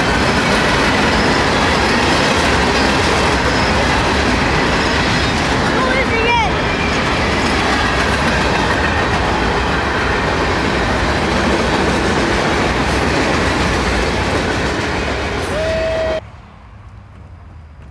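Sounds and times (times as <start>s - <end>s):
train wheels on rail: 0.0s - 17.9s.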